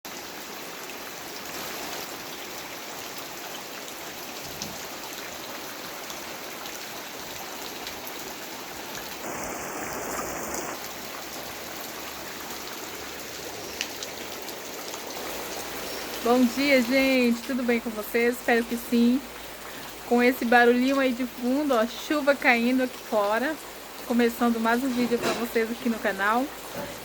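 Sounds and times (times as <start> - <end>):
heavy rain falling: 0.1 - 27.0.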